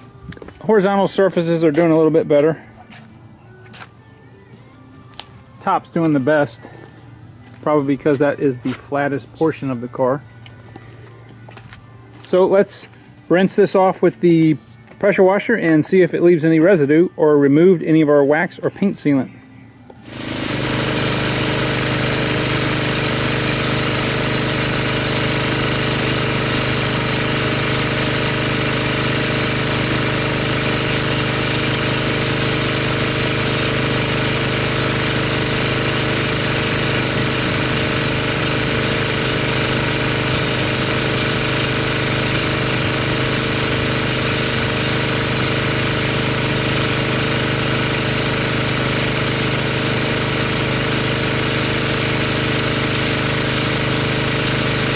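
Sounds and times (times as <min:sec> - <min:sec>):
pressure washer motor hum: 0:00.0 - 0:19.2, 0:19.9 - 0:54.9.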